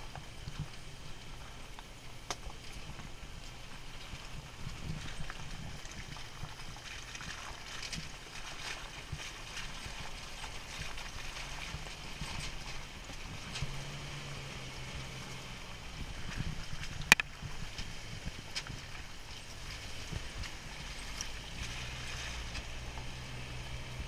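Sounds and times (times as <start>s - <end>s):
low engine hum: 0.0s - 24.0s
tyres crunching over dirt: 0.0s - 24.0s.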